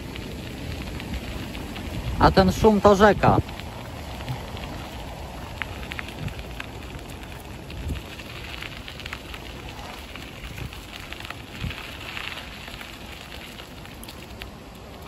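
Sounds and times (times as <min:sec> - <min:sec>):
bicycle tyres on gravel: 0:00.0 - 0:15.0.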